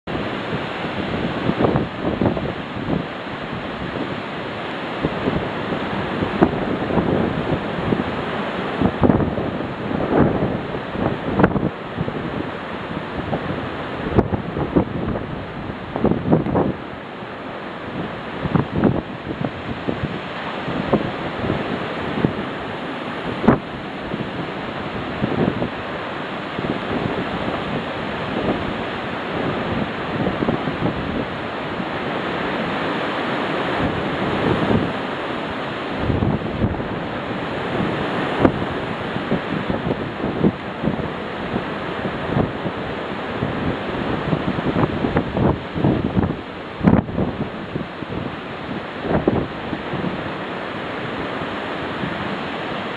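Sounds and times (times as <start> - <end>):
storm wind gusting: 0.1 - 52.9.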